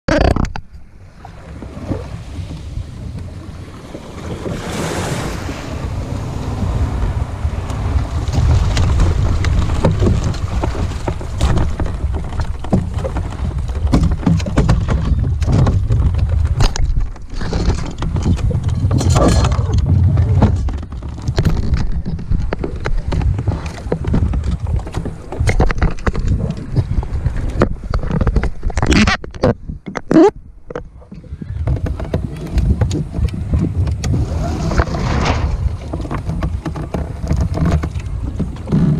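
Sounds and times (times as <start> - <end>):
water lapping against kayak: 0.1 - 38.9
wind buffeting microphone: 0.8 - 38.9.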